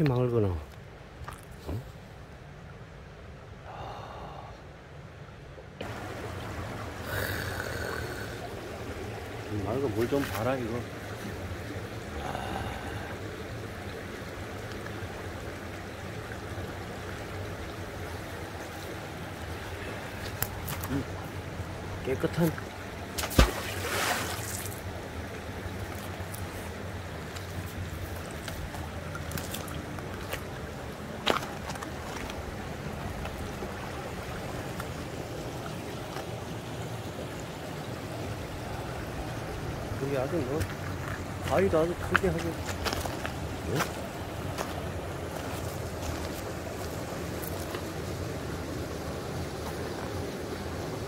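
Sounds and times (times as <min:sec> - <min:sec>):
stream flowing over pebbles: 0:00.0 - 0:51.0.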